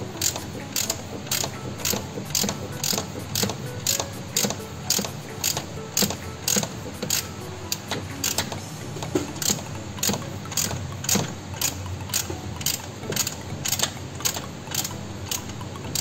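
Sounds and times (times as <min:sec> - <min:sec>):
socket wrench ratcheting: 0:00.1 - 0:16.0.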